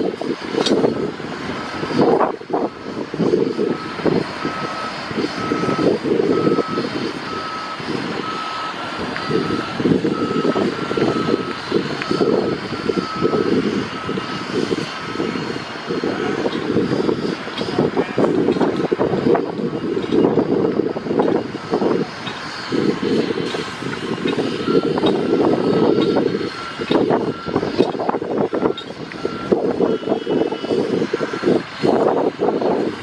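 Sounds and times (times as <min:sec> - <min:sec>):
backup alarm beeping: 0:01.8 - 0:23.3, 0:24.3 - 0:31.6.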